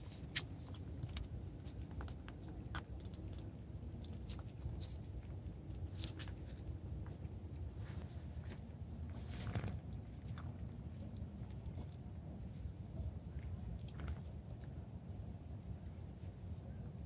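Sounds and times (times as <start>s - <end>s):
cats licking and lapping: 0.0s - 17.0s
low steady rumble: 0.0s - 17.0s.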